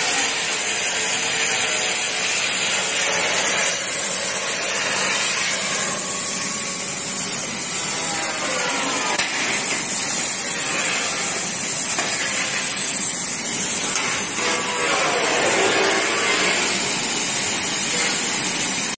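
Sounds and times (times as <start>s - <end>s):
plasma cutter hissing: 0.0s - 18.9s.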